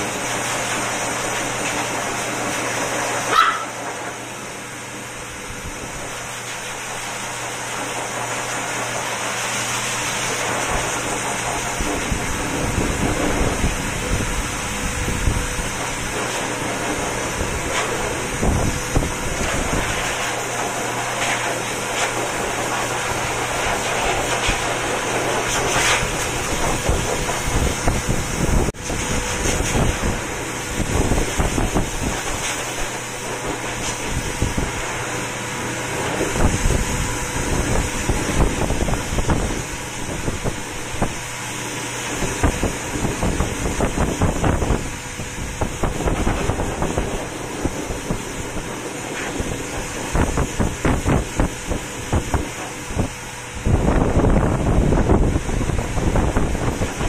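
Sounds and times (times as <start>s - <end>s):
pet blow dryer rushing air: 0.0s - 57.0s.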